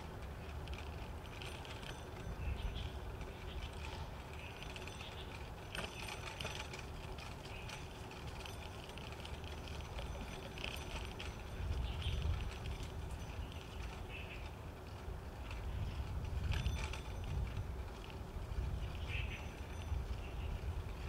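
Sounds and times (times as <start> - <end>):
wind rumble on microphone: 0.0 - 5.8, 6.6 - 21.0
bicycle tyre noise: 0.0 - 21.0
rattle of loose parts: 0.2 - 21.0.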